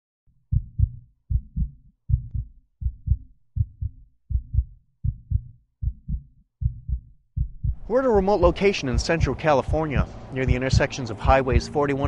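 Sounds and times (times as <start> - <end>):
heartbeat thumps: 0.5 - 11.8.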